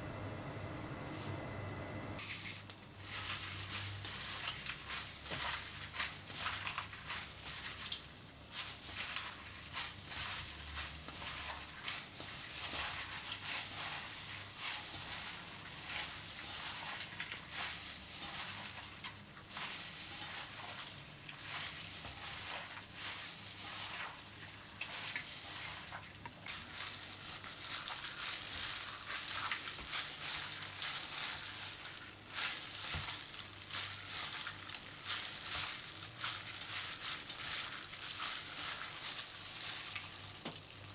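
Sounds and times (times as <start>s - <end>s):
plastic gloves crinkling: 2.2s - 40.9s.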